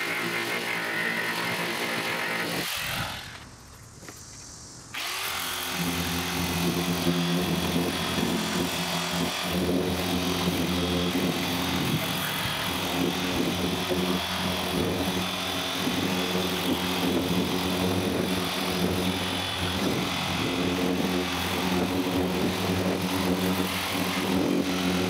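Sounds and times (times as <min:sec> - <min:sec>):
electric sander on metal: 0:00.0 - 0:03.5, 0:04.9 - 0:25.0.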